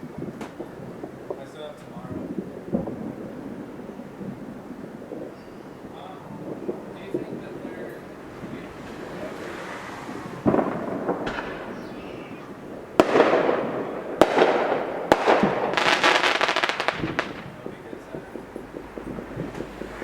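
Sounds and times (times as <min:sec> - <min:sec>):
firecrackers crackling: 0:00.0 - 0:20.0
fireworks bangs with echo: 0:00.0 - 0:20.0.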